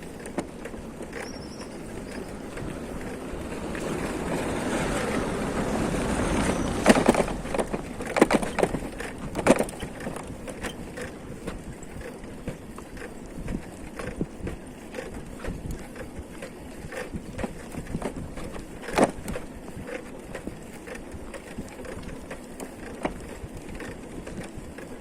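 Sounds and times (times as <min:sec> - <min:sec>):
vehicle noise: 0:00.0 - 0:24.8.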